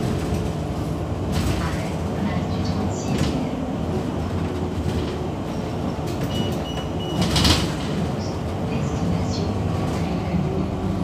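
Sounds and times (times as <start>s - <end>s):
vehicle running rumble: 0.0s - 11.0s.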